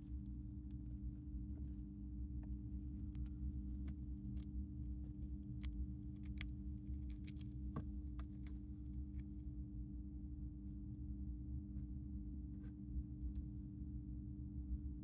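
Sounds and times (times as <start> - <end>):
hamster nibbling and crunching food: 0.0 - 13.7
steady low hum: 0.0 - 15.0.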